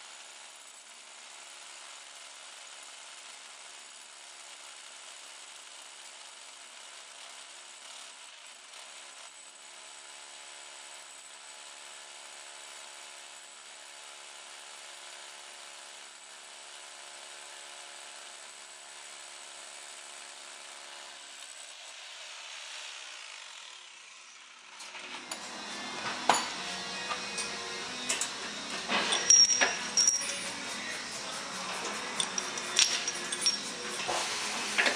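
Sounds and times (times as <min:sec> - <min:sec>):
hammer drill boring into concrete: 0:00.0 - 0:34.9.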